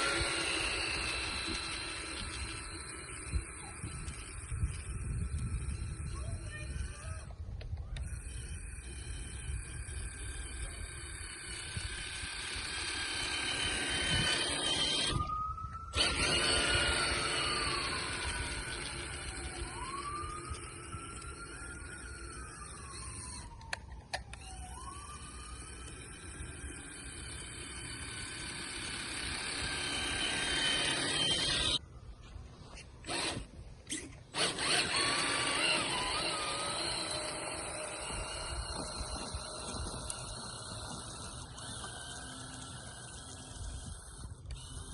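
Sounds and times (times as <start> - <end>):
electric motor whining: 0.0 - 44.9.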